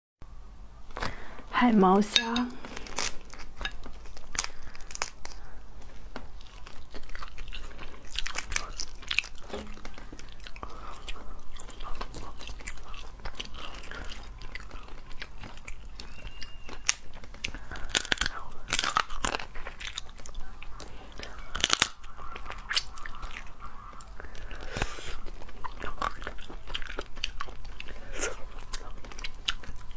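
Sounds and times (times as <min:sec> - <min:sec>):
crunching and chewing: 0:02.2 - 0:29.9
shellfish shells cracking: 0:02.2 - 0:29.9.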